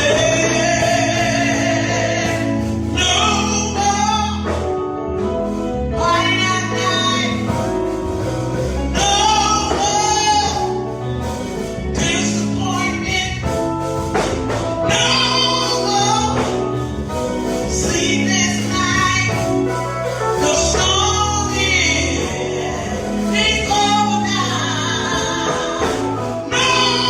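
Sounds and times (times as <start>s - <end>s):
band with steady beat: 0.0s - 27.0s
gospel voices singing: 0.0s - 27.0s.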